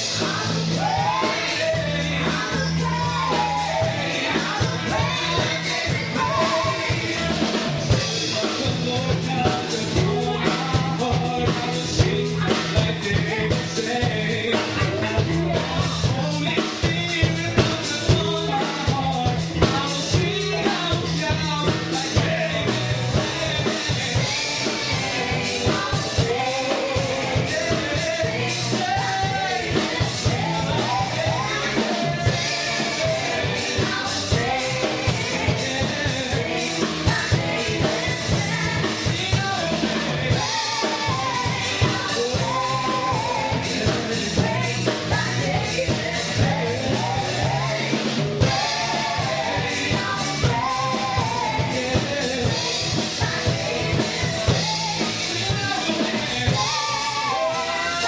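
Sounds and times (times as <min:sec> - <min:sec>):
band with drum kit: 0:00.0 - 0:58.0
singers singing gospel: 0:00.0 - 0:58.0.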